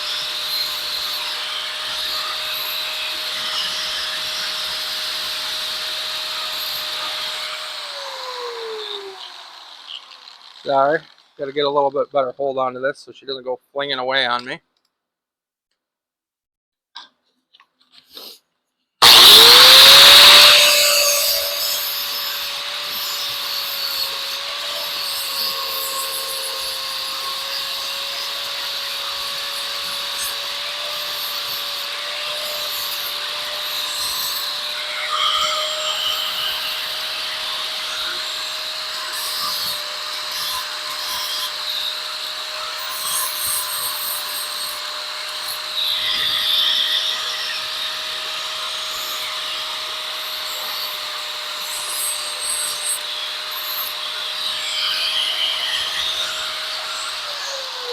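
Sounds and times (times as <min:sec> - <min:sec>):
power tool high whine: 0:00.0 - 0:11.4, 0:19.0 - 0:57.9.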